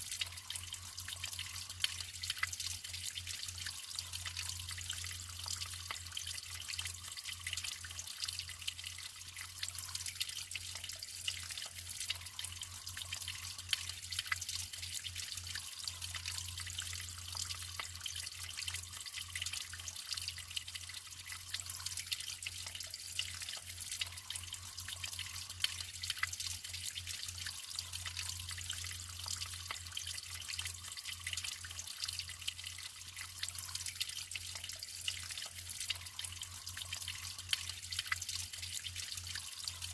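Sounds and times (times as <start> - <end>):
water dripping: 0.0 - 39.9
water trickling and splashing: 0.0 - 39.9.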